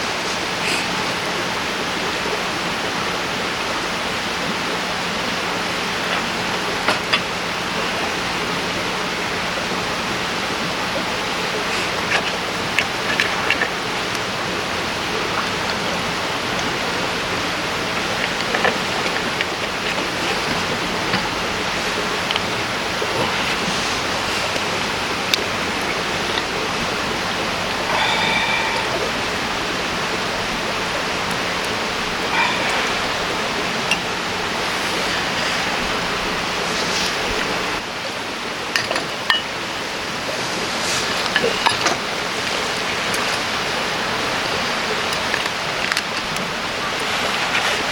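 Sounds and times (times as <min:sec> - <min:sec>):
river water rushing over stones: 0:00.0 - 0:47.9.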